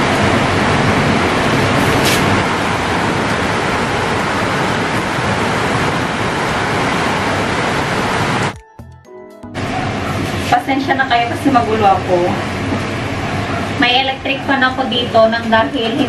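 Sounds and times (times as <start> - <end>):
heavy rain pouring: 0.0 - 8.6, 9.6 - 16.0.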